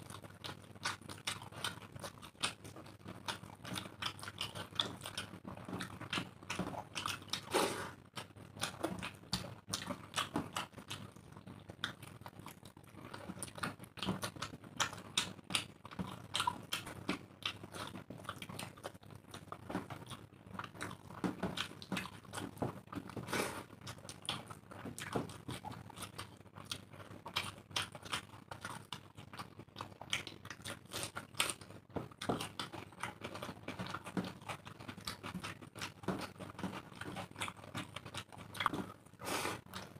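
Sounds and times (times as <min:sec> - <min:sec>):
wet chewing and lip-smacking: 0:00.0 - 0:39.9.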